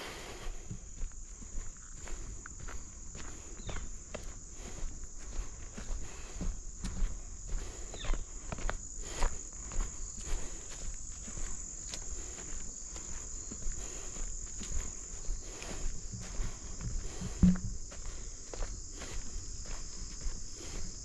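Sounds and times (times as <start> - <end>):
footsteps through marsh growth: 0.0 - 21.0
high-pitched insect chorus: 0.0 - 21.0.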